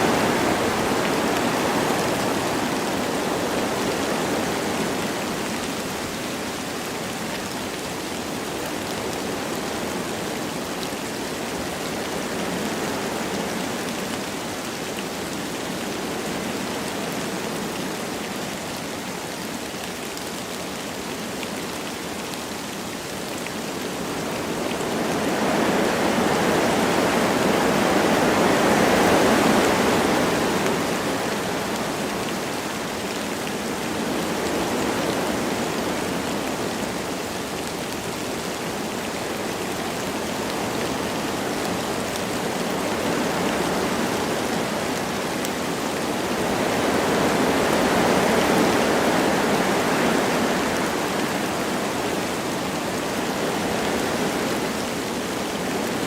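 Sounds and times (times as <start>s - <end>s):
light rain falling: 0.0s - 56.0s
wind rushing through trees: 0.0s - 56.0s.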